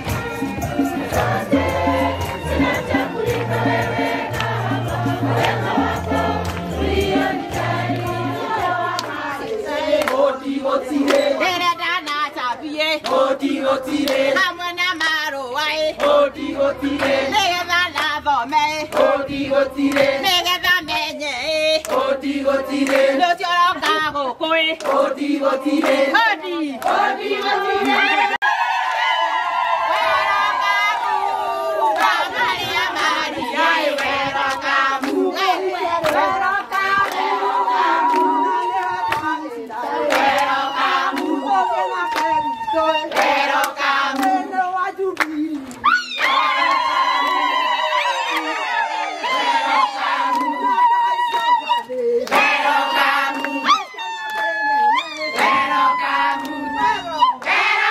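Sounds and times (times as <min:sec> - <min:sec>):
rhythmic hand clapping: 0:00.0 - 0:28.2, 0:31.9 - 0:48.6, 0:49.2 - 0:57.9
women singing together: 0:00.0 - 0:57.9.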